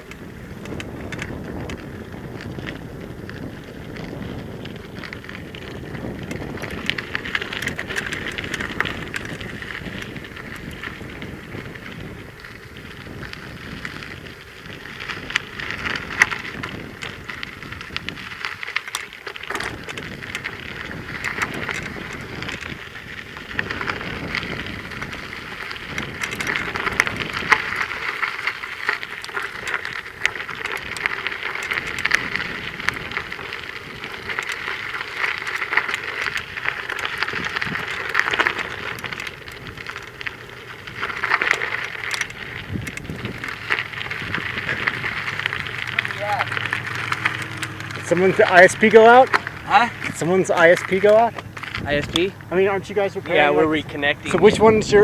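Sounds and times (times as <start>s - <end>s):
wind on the microphone: 0.0s - 18.6s, 19.6s - 28.1s, 29.5s - 35.0s, 36.2s - 40.0s, 42.0s - 55.0s
bike tyres crackling on grit: 0.0s - 55.0s.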